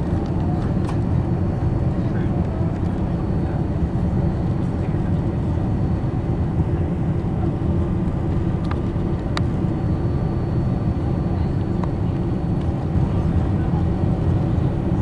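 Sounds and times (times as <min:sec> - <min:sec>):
airplane engine cabin roar: 0:00.0 - 0:15.0.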